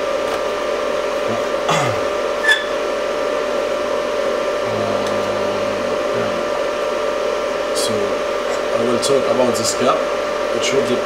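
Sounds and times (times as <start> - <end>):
electric fan motor whirring: 0.0 - 11.0.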